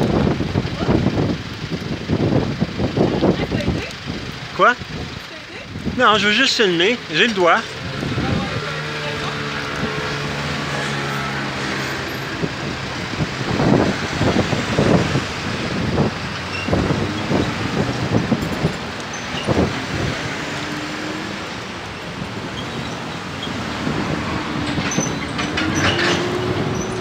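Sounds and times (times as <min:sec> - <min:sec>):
cars driving past: 0:04.0 - 0:27.0.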